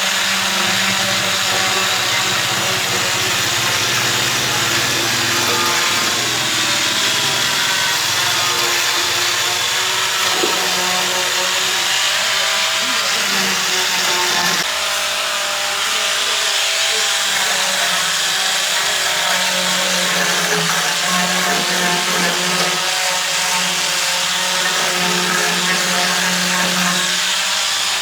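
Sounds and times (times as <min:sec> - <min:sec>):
handheld power tool running: 0:00.0 - 0:28.0.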